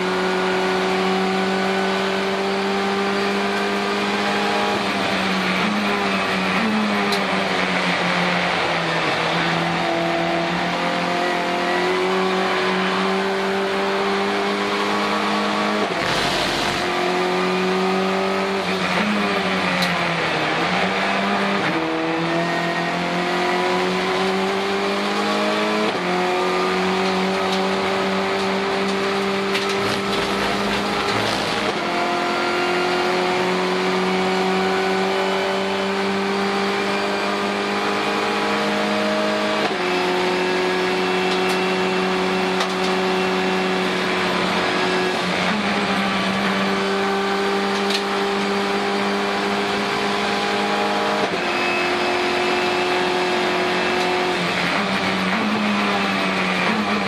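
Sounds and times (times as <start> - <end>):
race car engine at full throttle: 0.0 - 57.0.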